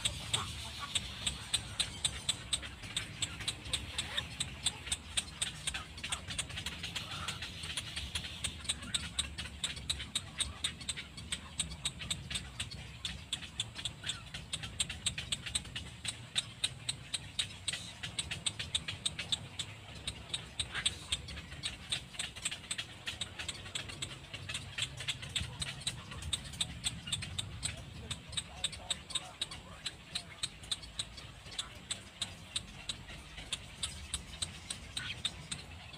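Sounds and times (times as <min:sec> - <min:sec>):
low steady rumble: 0:00.0 - 0:35.9
rapid animal clicks: 0:00.0 - 0:35.9.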